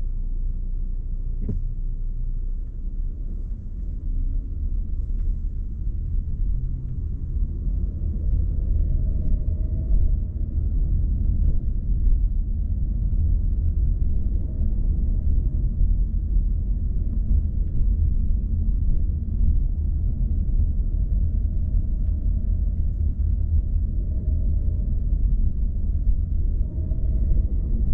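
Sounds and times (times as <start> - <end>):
car engine rumble: 0.0 - 27.9.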